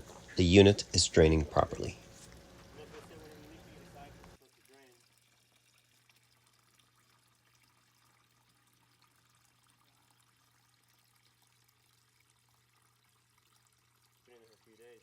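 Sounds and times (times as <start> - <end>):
drain pump humming: 0.0 - 15.0
water trickling: 0.0 - 15.0.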